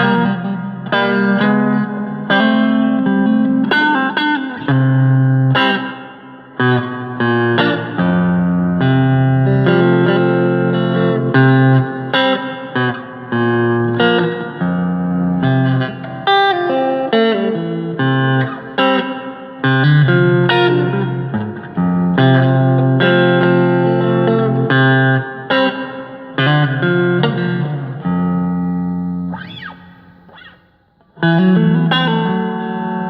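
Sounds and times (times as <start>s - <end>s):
electric guitar notes and chords: 0.0s - 33.0s.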